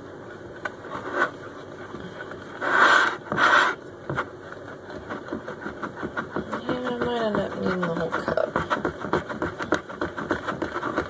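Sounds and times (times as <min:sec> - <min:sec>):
whisk scraping bowl: 0:00.8 - 0:11.0.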